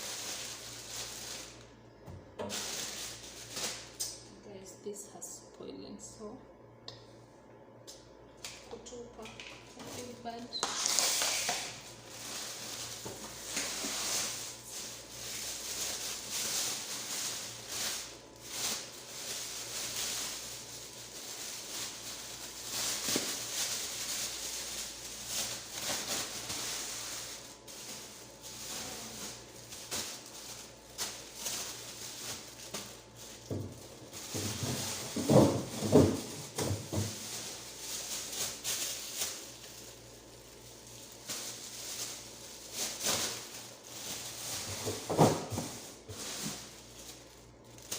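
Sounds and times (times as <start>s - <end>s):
plastic bags rustling: 0.0s - 4.3s, 9.4s - 47.9s.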